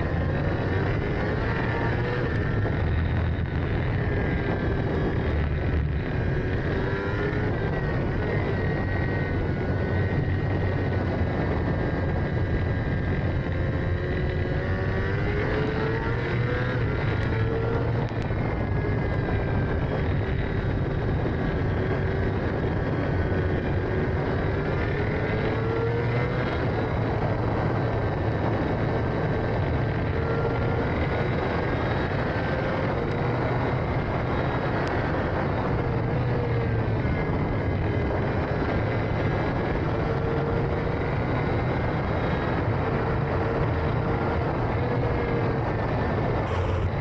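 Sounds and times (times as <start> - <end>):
racing engine revving: 0.0 - 47.0
wind and road noise: 0.0 - 47.0.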